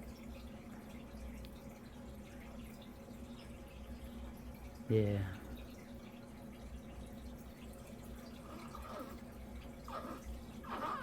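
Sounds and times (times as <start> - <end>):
water trickling and dripping: 0.0 - 11.0.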